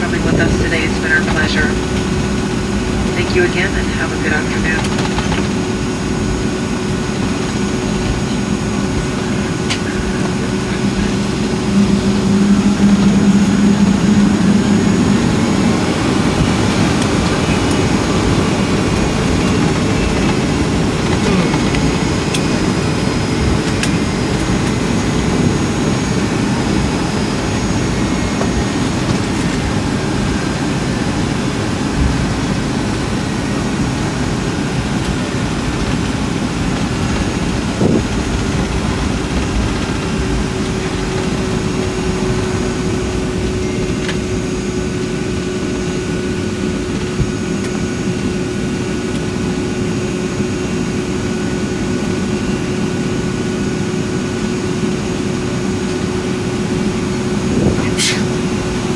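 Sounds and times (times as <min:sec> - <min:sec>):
jet engines idling: 0:00.0 - 0:58.9
steady hum: 0:00.0 - 0:58.9.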